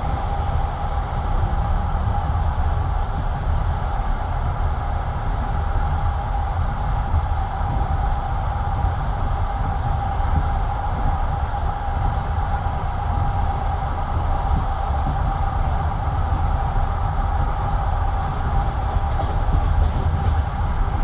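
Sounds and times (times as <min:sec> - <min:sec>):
constant high hum: 0:00.0 - 0:21.0
train wheels rumbling on rails: 0:00.0 - 0:21.0.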